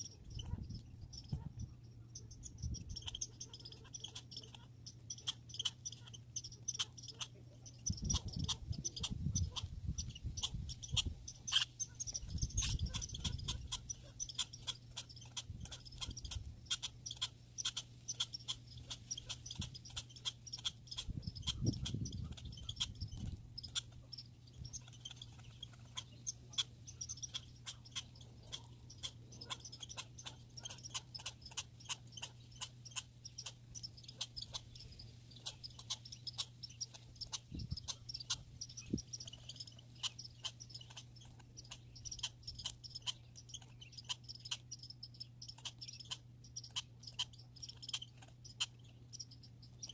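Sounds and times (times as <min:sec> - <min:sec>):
squirrel clicking: 0:00.0 - 0:49.9.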